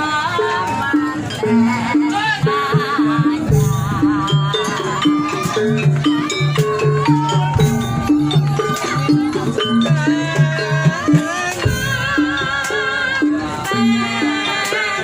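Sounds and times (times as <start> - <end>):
rattling percussion: 0.0 - 15.0
wavering melody: 0.0 - 15.0.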